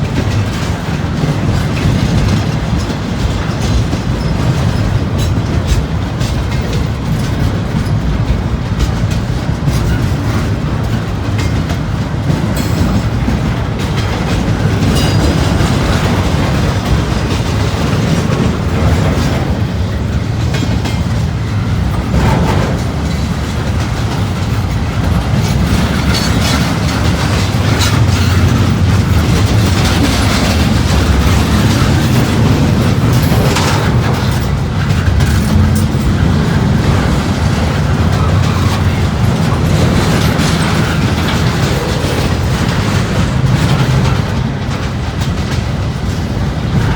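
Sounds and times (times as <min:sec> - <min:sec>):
freight train cars rolling: 0:00.0 - 0:46.9
wheels clicking over rail joints: 0:00.0 - 0:46.9.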